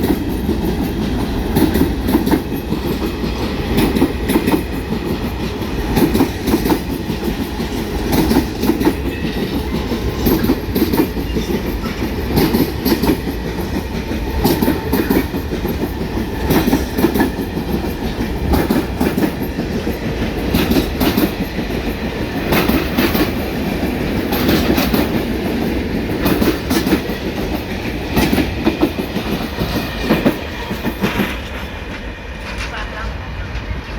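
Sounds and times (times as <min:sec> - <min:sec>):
wheels clattering over rail joints: 0:00.0 - 0:33.0
freight train rumbling past: 0:00.0 - 0:33.9.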